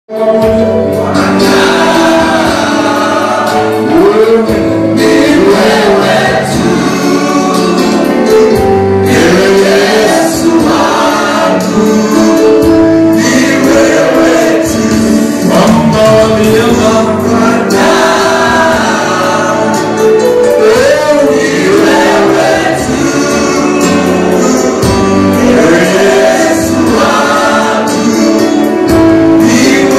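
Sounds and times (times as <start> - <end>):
choir singing gospel music: 0.1 - 29.9.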